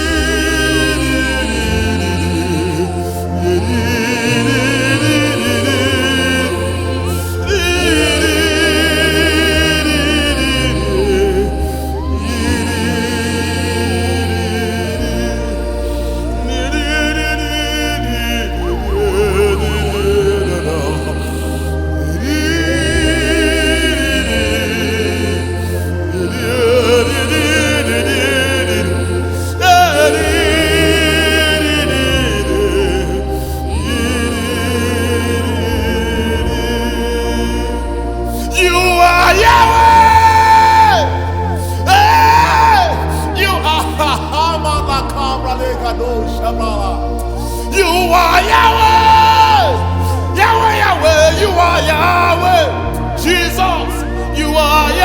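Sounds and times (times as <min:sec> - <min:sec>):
gospel worship music: 0:00.0 - 0:55.0
low bass: 0:00.0 - 0:55.0.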